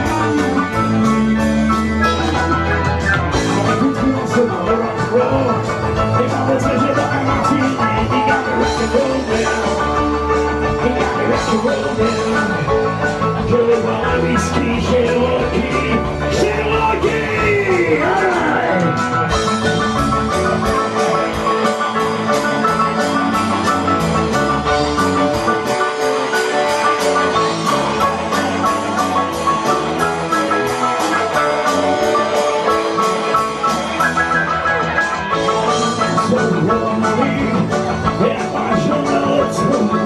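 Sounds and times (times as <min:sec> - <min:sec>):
bass guitar: 0:00.0 - 0:40.0
drum kit: 0:00.0 - 0:40.0
electric guitar: 0:00.0 - 0:40.0
keyboard: 0:00.0 - 0:40.0.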